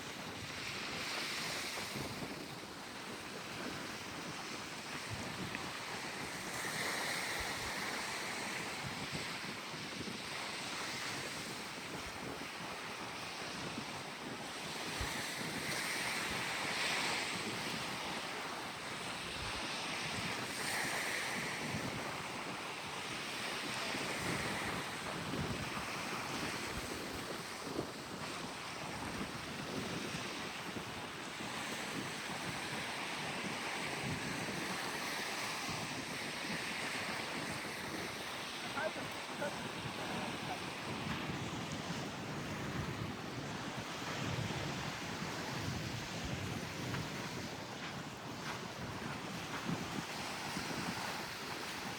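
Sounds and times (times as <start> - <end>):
wind blowing across microphone: 0.0 - 51.9.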